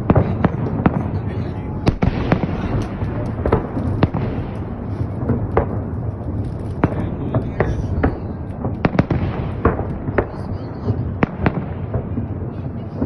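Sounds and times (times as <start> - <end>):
fireworks bangs and crackles: 0.0 - 13.0
steady low rumble: 0.0 - 13.0.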